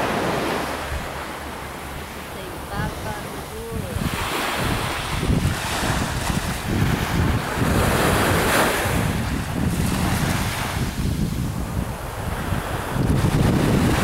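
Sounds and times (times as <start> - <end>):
small waves washing onto sand: 0.0 - 14.0
wind buffeting microphone: 0.0 - 14.0.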